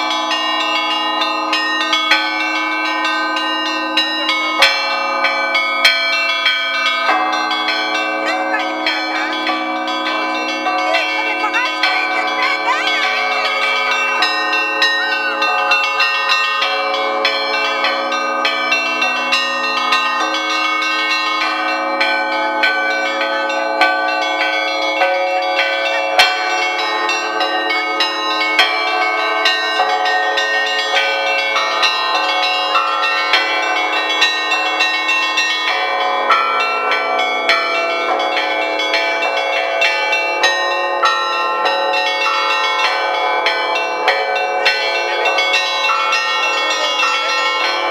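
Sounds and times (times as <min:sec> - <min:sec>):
large bells ringing: 0:00.0 - 0:47.9
small bells chiming quickly: 0:00.0 - 0:47.9.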